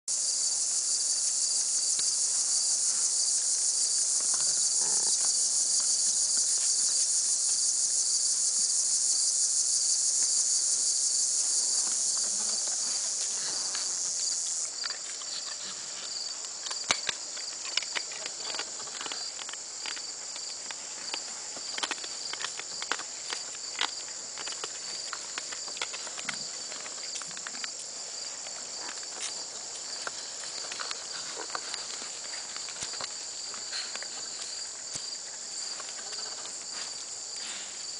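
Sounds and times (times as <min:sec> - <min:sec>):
insect chorus trilling: 0:00.1 - 0:37.9.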